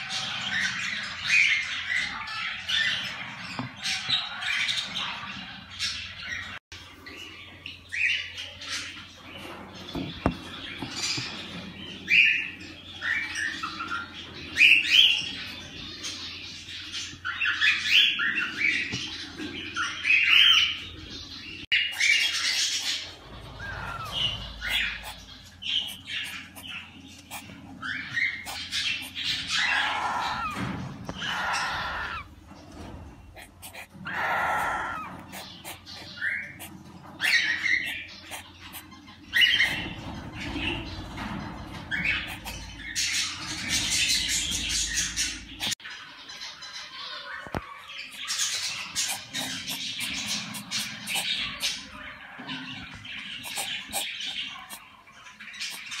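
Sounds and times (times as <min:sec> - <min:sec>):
nestlings squawking: 0:00.0 - 0:06.6, 0:07.3 - 0:56.0.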